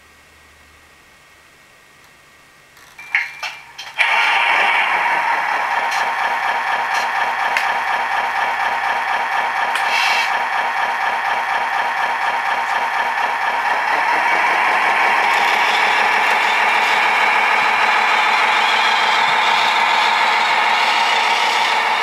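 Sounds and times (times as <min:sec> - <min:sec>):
toy truck motor running: 0:03.9 - 0:22.0.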